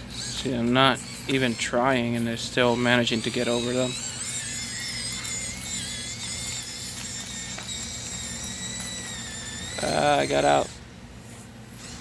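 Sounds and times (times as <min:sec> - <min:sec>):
small motor high whine: 0:00.0 - 0:12.0.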